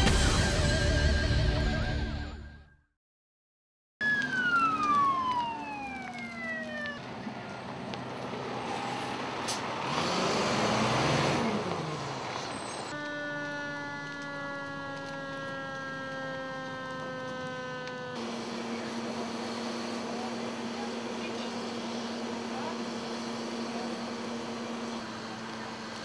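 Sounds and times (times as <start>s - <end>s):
siren winding down: 4.0s - 9.2s, 9.9s - 26.0s
truck driving past: 4.0s - 26.0s.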